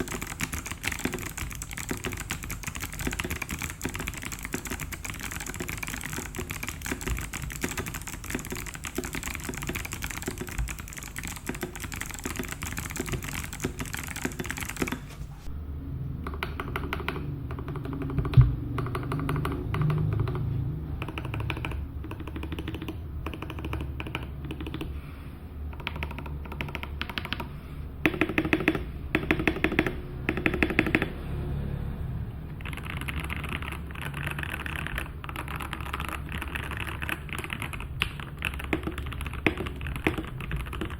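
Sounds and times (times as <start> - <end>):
typing on mechanical keyboard: 0.0 - 15.2, 16.2 - 24.9, 25.7 - 31.2, 32.6 - 40.9.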